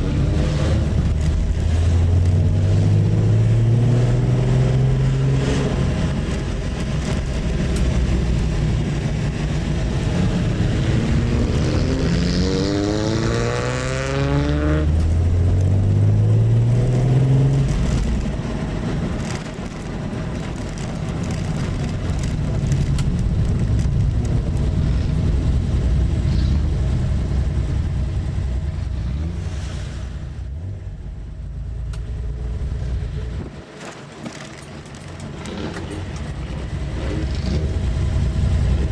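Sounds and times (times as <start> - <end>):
car engine accelerating: 0.0 - 33.7, 34.9 - 38.9.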